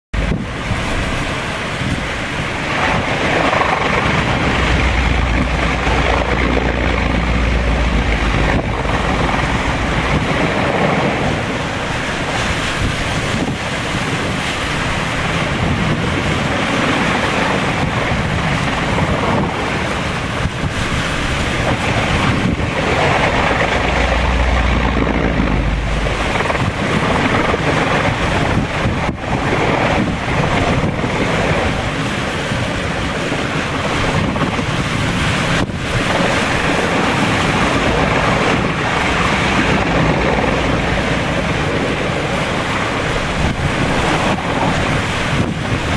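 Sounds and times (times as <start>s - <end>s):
wind buffeting microphone: 0.1s - 45.9s
wind rushing through palm fronds: 0.2s - 45.9s.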